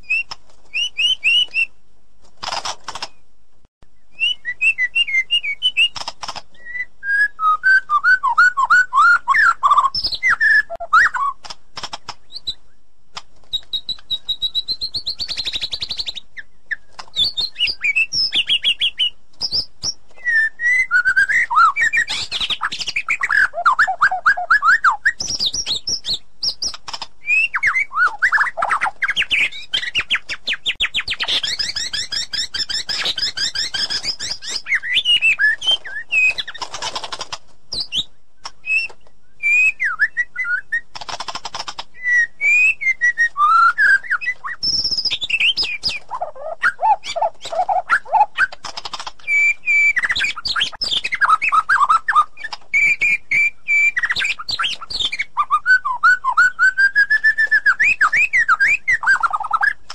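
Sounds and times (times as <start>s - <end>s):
bird singing varied song: 0.0s - 1.8s, 2.9s - 12.9s, 13.5s - 59.9s.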